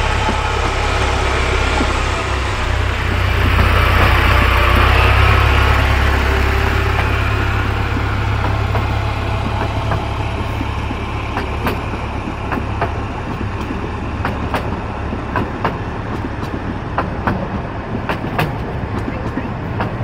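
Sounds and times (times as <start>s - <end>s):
diesel locomotive engine hum: 0.0s - 20.0s
train wheels clicking over rail joints: 0.0s - 20.0s.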